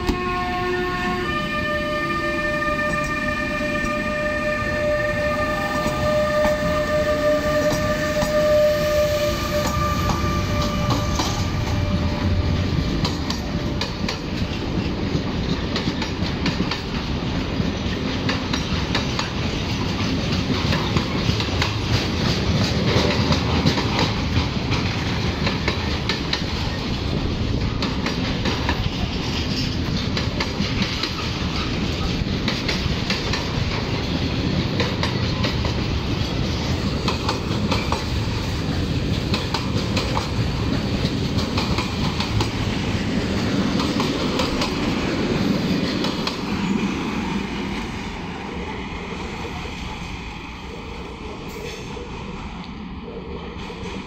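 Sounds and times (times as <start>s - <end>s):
electric locomotive whine: 0.0s - 54.0s.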